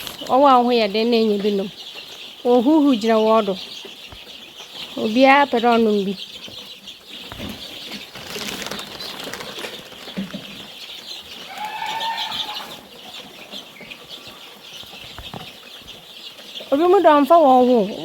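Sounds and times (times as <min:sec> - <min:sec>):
chicks peeping: 0:00.0 - 0:18.0
wings flapping and scuffling: 0:00.0 - 0:18.0.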